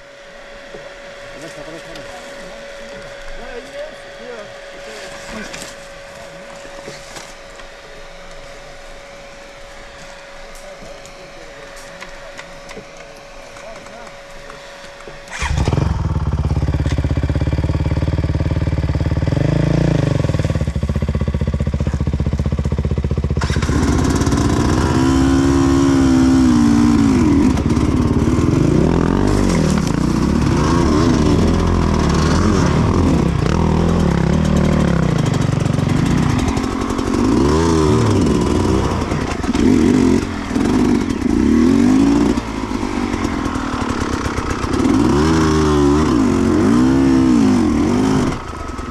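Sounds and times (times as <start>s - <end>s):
motorcycle engine revving: 8.9s - 48.9s.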